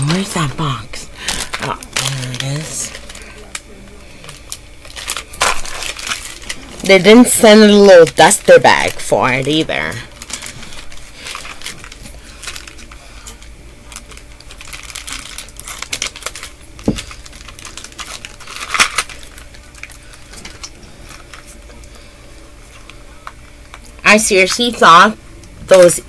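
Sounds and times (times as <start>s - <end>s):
cardboard packaging crinkling: 0.0s - 22.0s.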